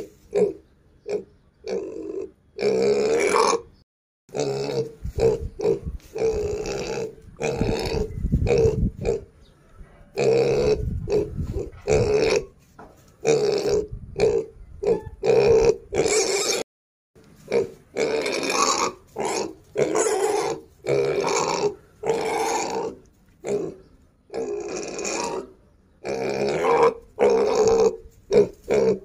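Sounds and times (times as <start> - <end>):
young pig grunting: 0.0 - 9.4, 10.1 - 12.6, 13.2 - 16.6, 17.4 - 29.0.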